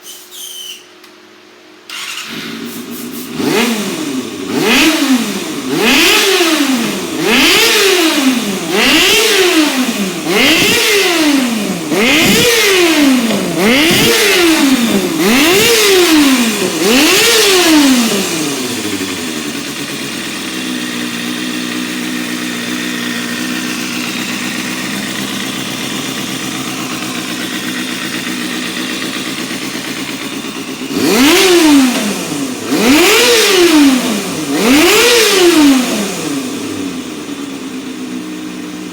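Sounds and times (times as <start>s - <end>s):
motorcycle engine revving: 1.9s - 38.9s.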